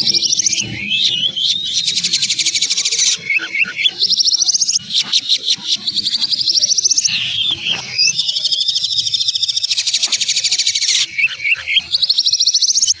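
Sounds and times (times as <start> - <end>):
bird chirping notes: 0.0 - 13.0
songbird rattling trills: 0.0 - 13.0.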